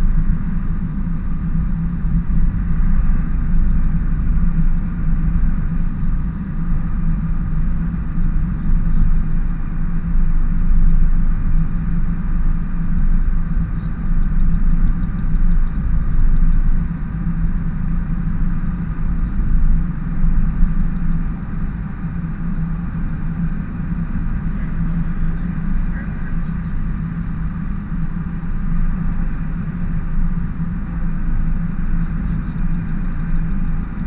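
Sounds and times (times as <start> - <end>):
truck engine and road noise: 0.0 - 34.0.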